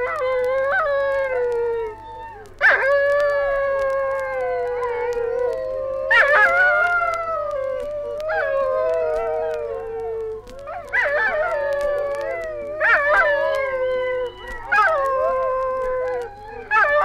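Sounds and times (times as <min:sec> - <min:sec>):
dingoes howling: 0:00.0 - 0:17.0
record surface clicks: 0:00.0 - 0:17.0.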